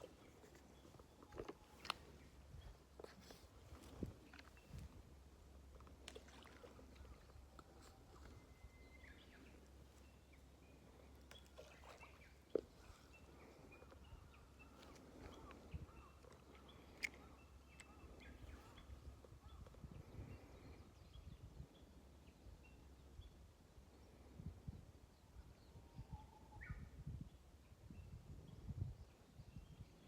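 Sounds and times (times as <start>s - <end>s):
faint birdsong: 0.0s - 30.0s.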